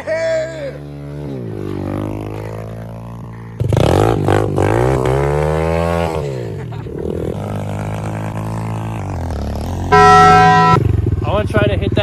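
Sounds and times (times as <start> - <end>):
motorbike engine revving: 0.6 - 11.2.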